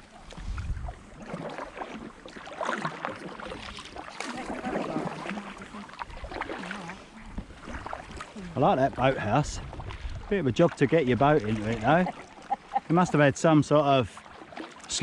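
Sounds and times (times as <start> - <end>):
kayak paddles splashing in water: 0.0 - 15.0.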